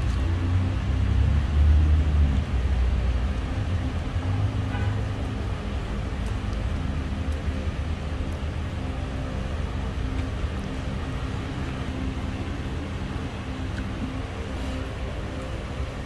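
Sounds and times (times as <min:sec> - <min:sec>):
faint steady hum: 0:00.0 - 0:16.0
steady low rumble: 0:00.0 - 0:16.0.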